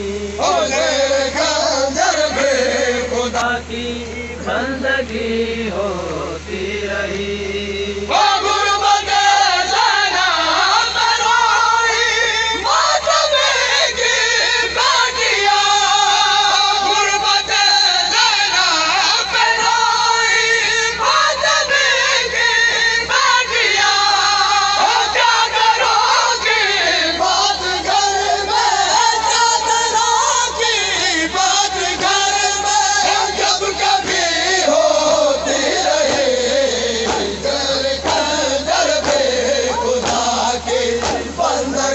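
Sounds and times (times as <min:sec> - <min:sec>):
person singing devotional recitation: 0:00.0 - 0:41.9.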